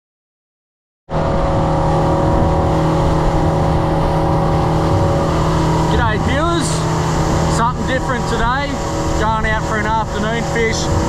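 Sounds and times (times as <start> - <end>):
outboard motor running: 1.1 - 11.0
wind and water rushing: 1.1 - 11.0.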